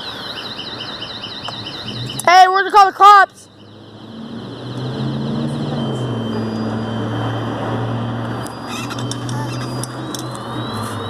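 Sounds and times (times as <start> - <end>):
faint electronic alarm tones: 0.0 - 11.0
vehicle engine humming: 0.0 - 11.0.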